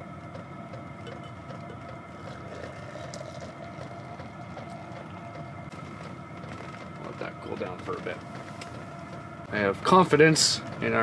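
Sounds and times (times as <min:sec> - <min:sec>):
heater humming: 0:00.0 - 0:11.0.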